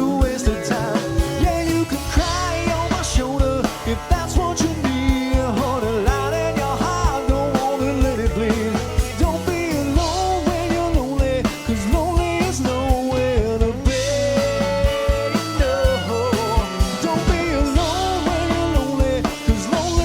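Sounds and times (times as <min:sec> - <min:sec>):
country band playing: 0:00.0 - 0:20.0
drums: 0:00.0 - 0:20.0.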